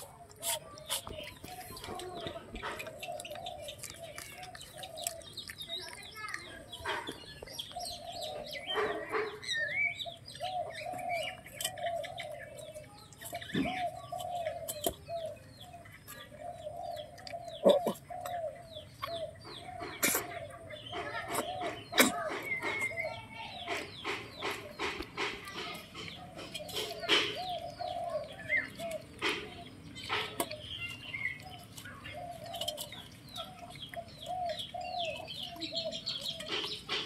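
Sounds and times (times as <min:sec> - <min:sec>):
puppies whining and squeaking: 0:00.0 - 0:37.0.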